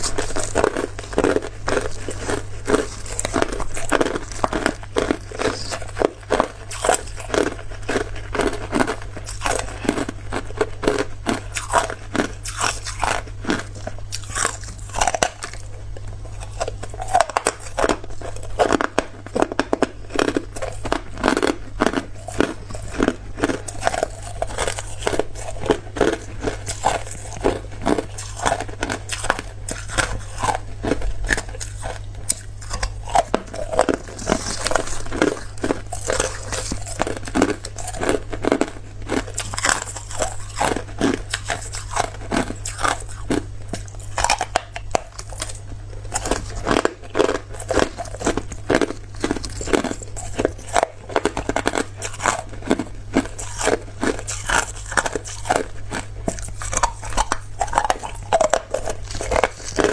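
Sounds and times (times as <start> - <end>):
person chewing hard ice: 0.0 - 59.9.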